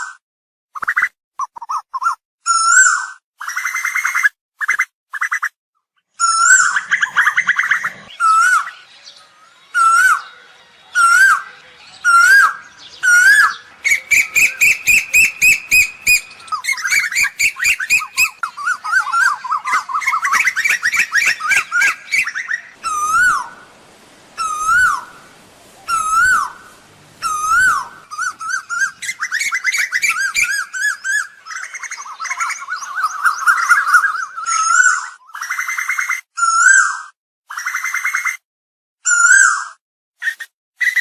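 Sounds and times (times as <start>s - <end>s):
bird whistled calls: 6.2s - 38.4s, 39.1s - 41.0s.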